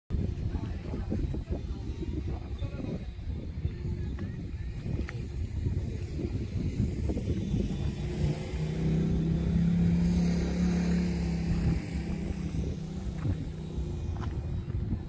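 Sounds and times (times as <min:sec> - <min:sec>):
low rumble: 0:00.1 - 0:15.0
motor engine running: 0:00.1 - 0:15.0.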